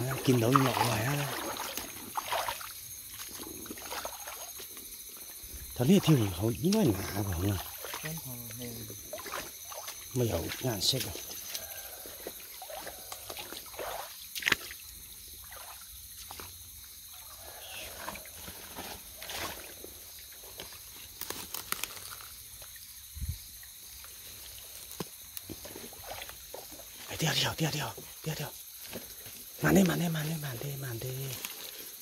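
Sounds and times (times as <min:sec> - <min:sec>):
small splashes: 0:00.0 - 0:05.4, 0:06.0 - 0:23.0, 0:23.6 - 0:30.4
water sloshing and trickling: 0:00.0 - 0:32.0.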